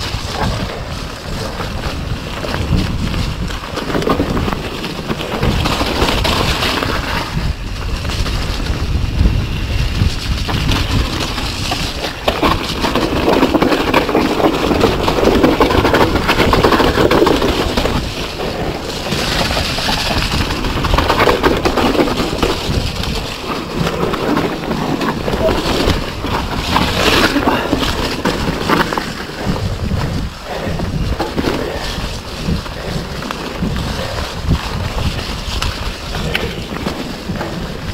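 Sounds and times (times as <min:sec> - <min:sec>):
bike rattling over bumps: 0:00.0 - 0:37.9
tyres on wet dirt: 0:00.0 - 0:37.9
wind buffeting microphone: 0:00.0 - 0:37.9.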